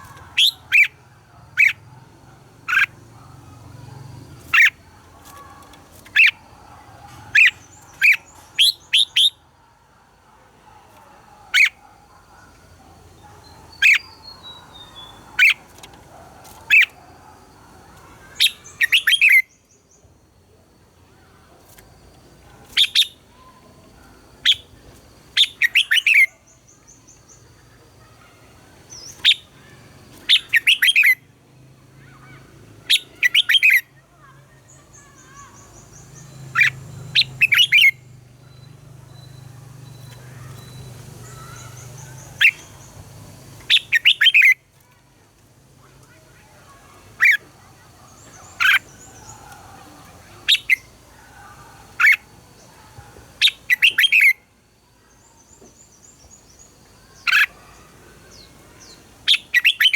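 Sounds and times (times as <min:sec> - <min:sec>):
bird chirping song: 0:00.0 - 0:59.9.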